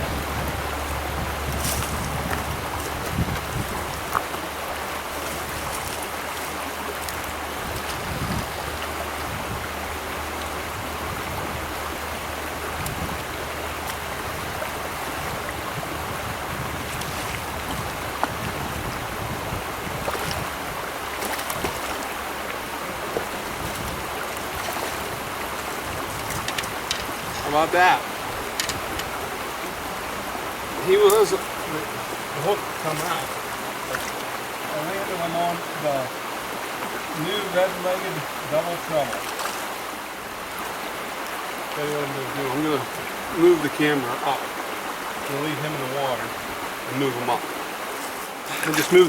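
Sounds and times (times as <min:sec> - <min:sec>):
stream rushing water: 0:00.0 - 0:49.0.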